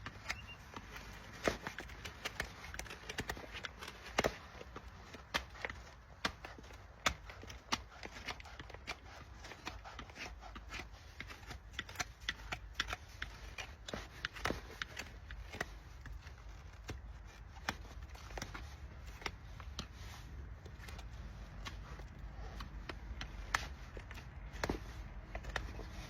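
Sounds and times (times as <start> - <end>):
hoof tools clicking and scraping: 0.0 - 26.0.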